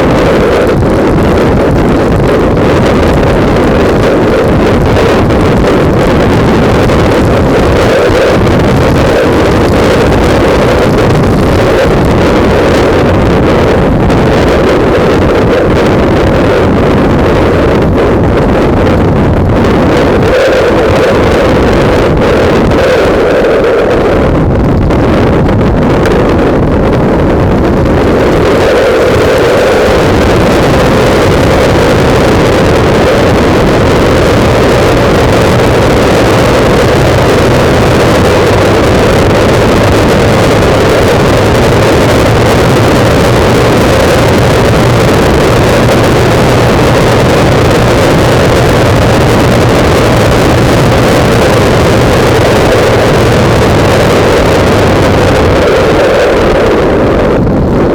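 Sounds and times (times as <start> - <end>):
motorcycle engine running: 0.0 - 23.0, 24.1 - 55.3
wind noise on microphone: 0.0 - 57.9.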